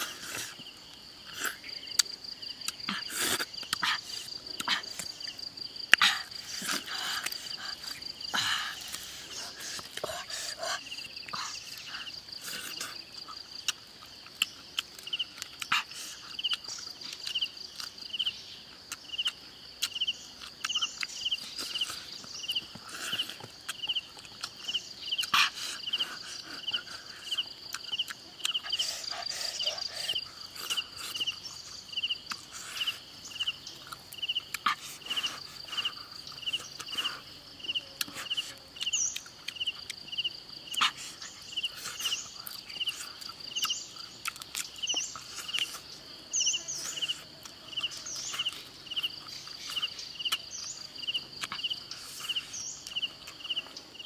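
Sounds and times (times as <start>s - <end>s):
insect chirping: 0.0s - 54.0s
insect high trill: 0.0s - 54.0s
bird chirps: 6.1s - 54.0s.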